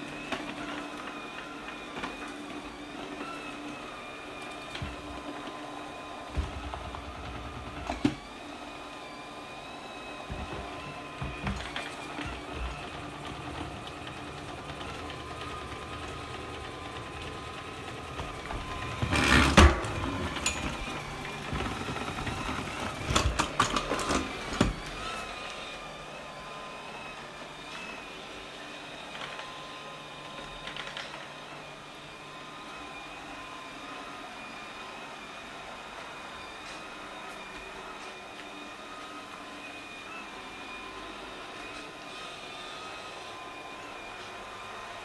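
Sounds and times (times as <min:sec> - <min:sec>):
robot vacuum whining: 0:00.0 - 0:45.0.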